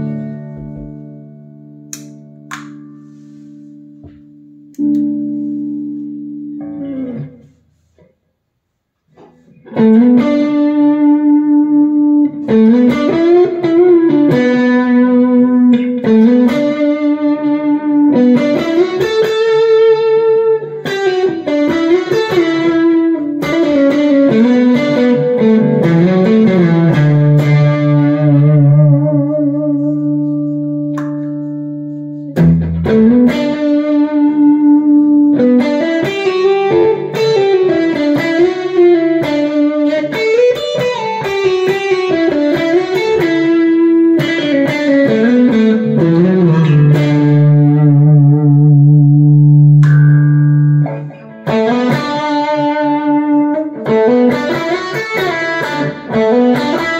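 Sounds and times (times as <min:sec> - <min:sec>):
electric guitar melody: 0:00.0 - 0:56.9.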